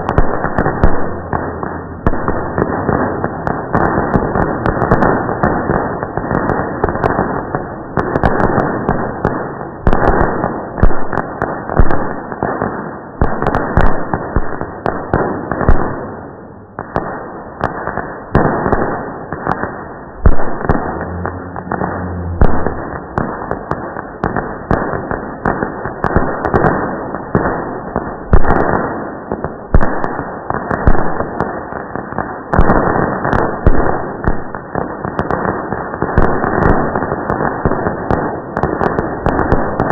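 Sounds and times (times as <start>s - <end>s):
firework crackling: 0.0s - 39.9s
slowed low-pitched firework bangs: 0.0s - 39.9s.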